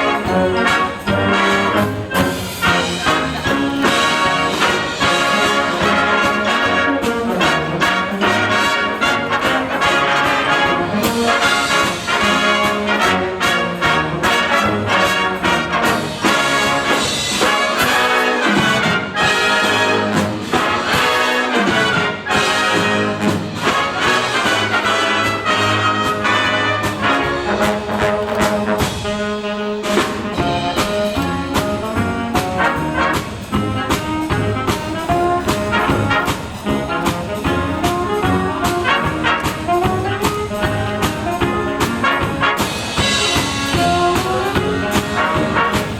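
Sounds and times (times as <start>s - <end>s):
steady drum beat: 0.0s - 45.9s
trumpets and trombones: 0.0s - 45.9s.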